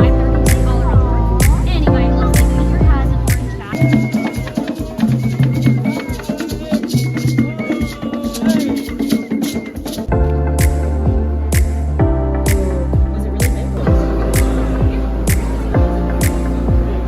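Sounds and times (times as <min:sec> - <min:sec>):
music with hand percussion: 0:00.0 - 0:17.0.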